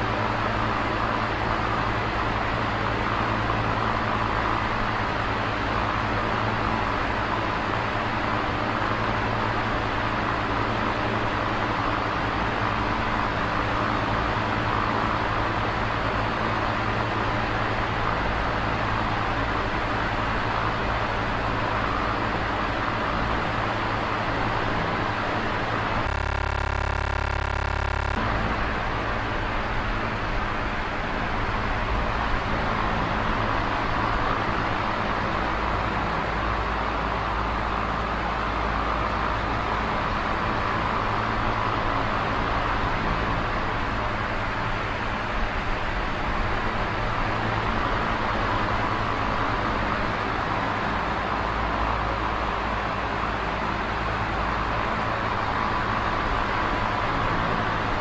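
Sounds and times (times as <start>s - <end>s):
electric fan running: 0.0s - 57.8s.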